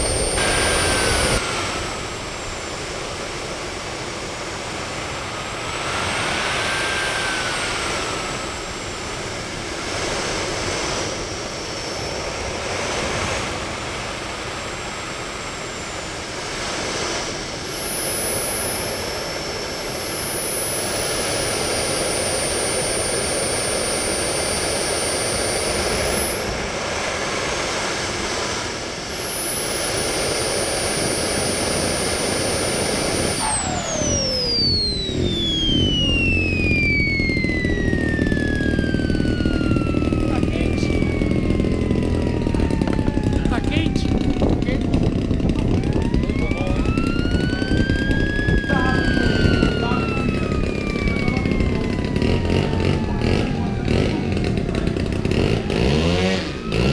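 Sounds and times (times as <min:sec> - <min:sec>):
model jet engine whine: 0:00.0 - 0:56.9.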